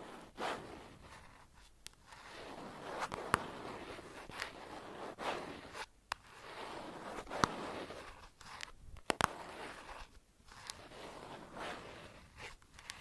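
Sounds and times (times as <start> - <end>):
soft swishing strokes: 0.0 - 13.0.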